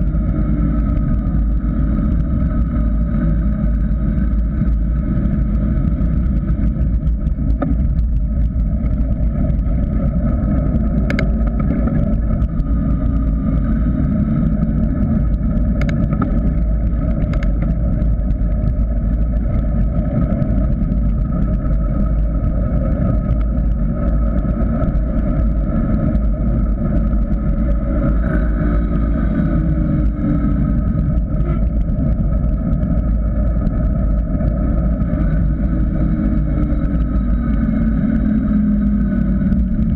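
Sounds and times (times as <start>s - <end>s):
tyres rumbling on asphalt: 0.0s - 39.9s
wind noise: 0.0s - 39.9s.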